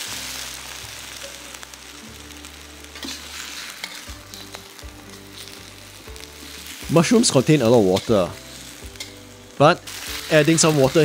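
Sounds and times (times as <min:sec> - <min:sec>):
mushrooms sizzling in oil: 0:00.0 - 0:11.0.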